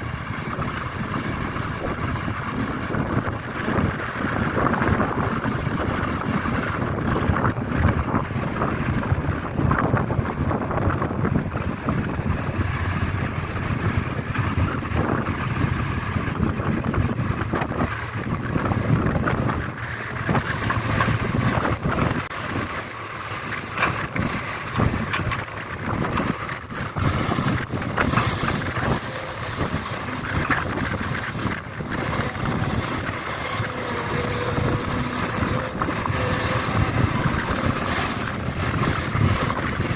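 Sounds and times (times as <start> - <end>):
heavy machinery engines running: 0.0 - 39.9
wind buffeting microphone: 0.0 - 39.9
knocks and clatter: 5.7 - 39.9.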